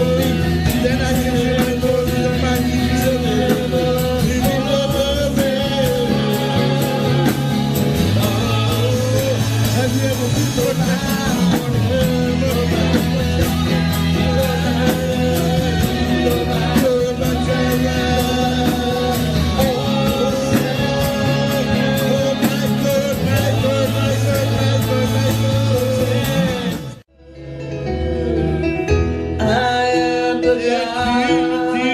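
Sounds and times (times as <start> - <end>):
worship band playing: 0.0 - 31.9.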